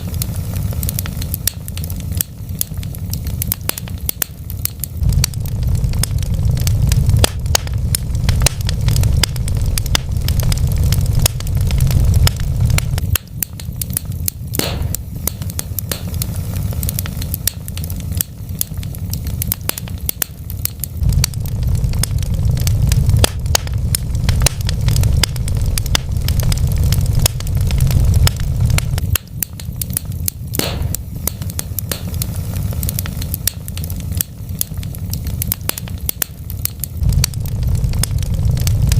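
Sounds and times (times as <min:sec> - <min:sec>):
loud fire pops: 0:00.0 - 0:38.9
wood fire crackling: 0:00.0 - 0:38.9.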